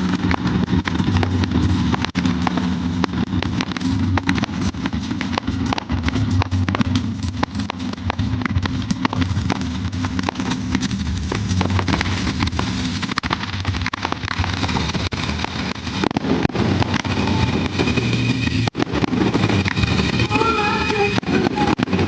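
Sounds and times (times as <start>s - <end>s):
fireworks crackling and popping: 0.0s - 22.0s
low rumble: 0.0s - 22.0s.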